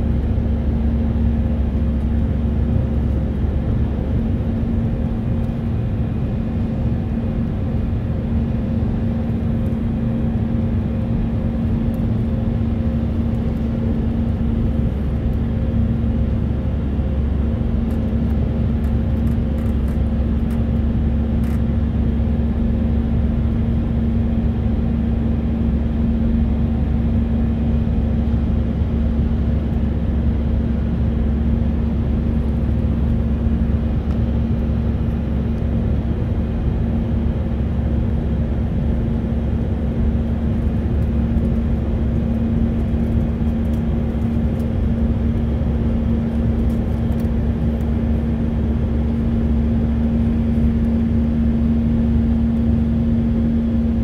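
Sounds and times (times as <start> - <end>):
airplane cabin engine drone: 0.0 - 54.0.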